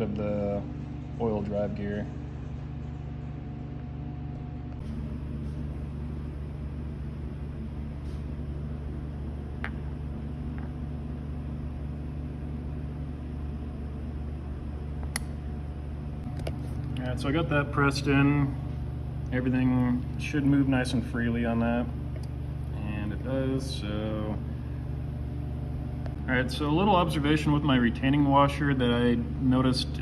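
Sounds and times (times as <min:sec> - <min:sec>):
low machinery hum: 0:00.0 - 0:30.0.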